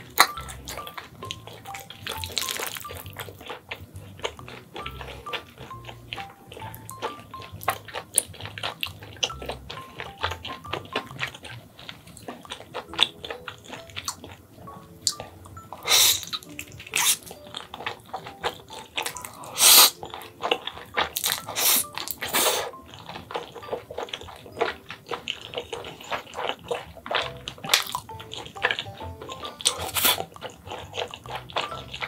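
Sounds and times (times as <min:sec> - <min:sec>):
slurping noodles: 0:00.0 - 0:32.0
wet chewing: 0:00.0 - 0:32.0.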